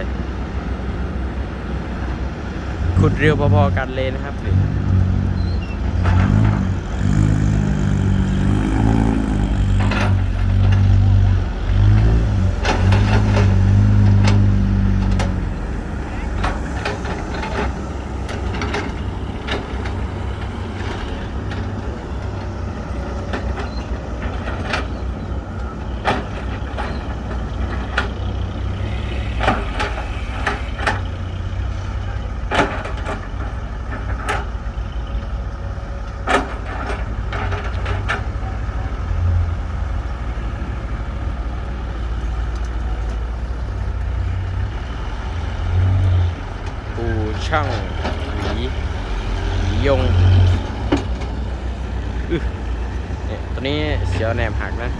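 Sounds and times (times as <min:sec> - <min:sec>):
diesel machinery rumbling: 0:00.0 - 0:54.9
metal knocks and clanks: 0:02.8 - 0:40.2, 0:41.5 - 0:54.9.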